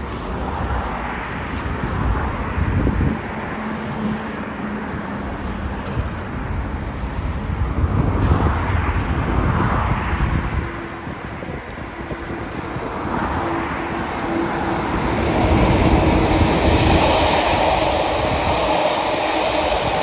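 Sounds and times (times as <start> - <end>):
diesel locomotive engine drone: 0.0 - 20.0
outdoor noise: 0.0 - 20.0.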